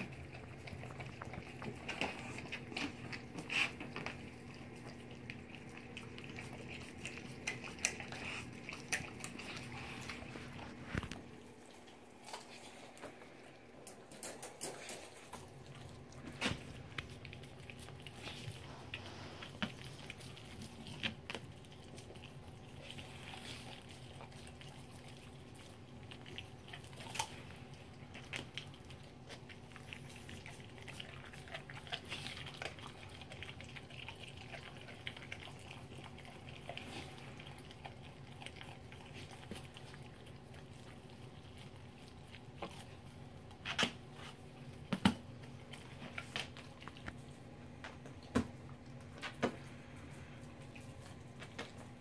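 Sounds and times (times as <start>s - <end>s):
dog licking and chewing: 0.0s - 52.0s.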